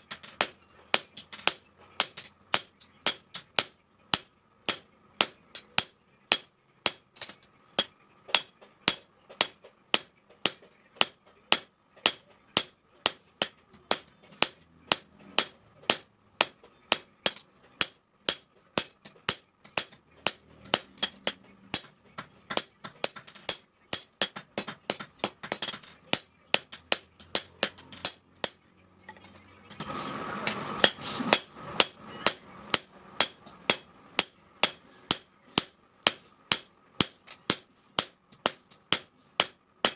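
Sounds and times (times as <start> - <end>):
hammer striking steel on anvil: 0.0 - 39.9.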